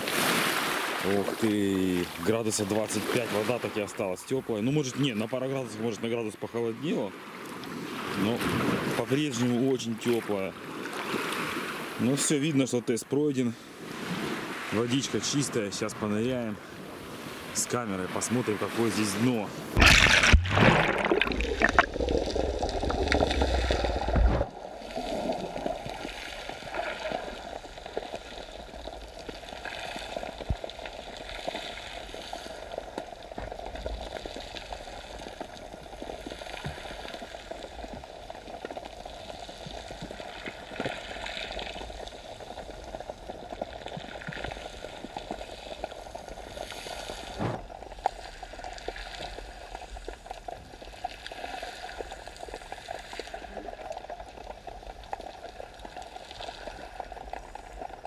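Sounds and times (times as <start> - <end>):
faint bubbling: 0.0 - 58.0
muffled underwater hiss: 0.0 - 58.0
underwater splashing and rumble: 0.0 - 58.0.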